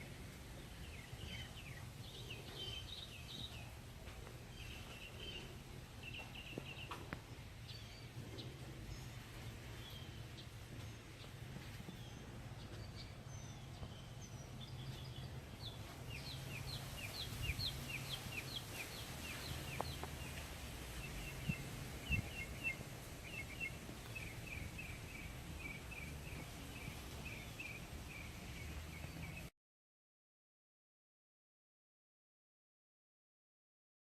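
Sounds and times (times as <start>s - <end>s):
steady low background rumble: 0.0s - 29.4s
bird chirping: 0.0s - 29.5s.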